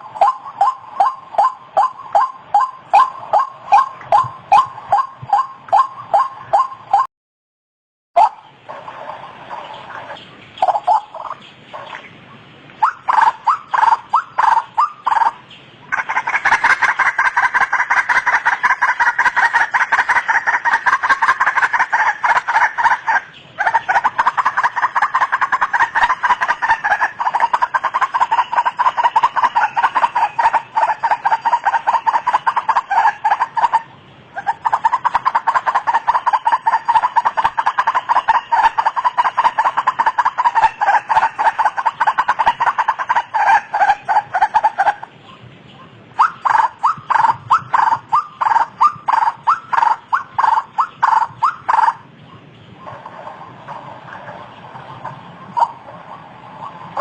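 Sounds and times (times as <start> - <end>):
waterhen calling: 0.0 - 7.1, 8.2 - 57.0.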